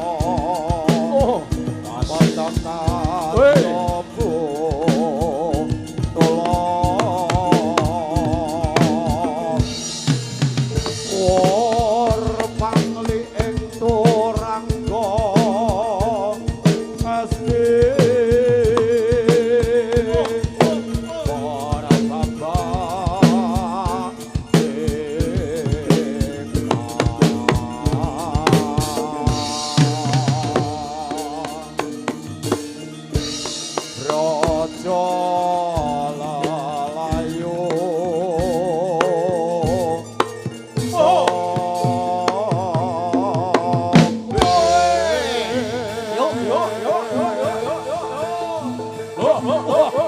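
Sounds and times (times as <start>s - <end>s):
drum and percussion strikes: 0.0s - 50.0s
steady held tones: 0.0s - 50.0s
vocal melody with vibrato: 0.0s - 50.0s.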